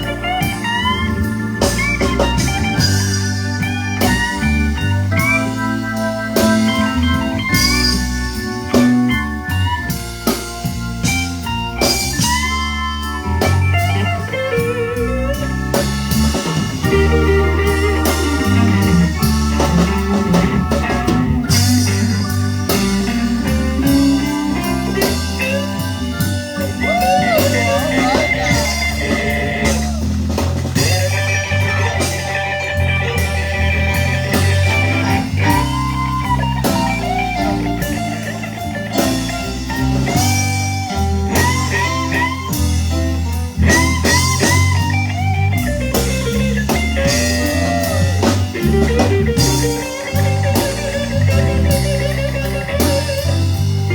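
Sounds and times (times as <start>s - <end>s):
lead guitar solo: 0.0s - 10.0s, 11.0s - 53.9s
blues band playing: 0.0s - 53.9s
drums: 0.0s - 53.9s.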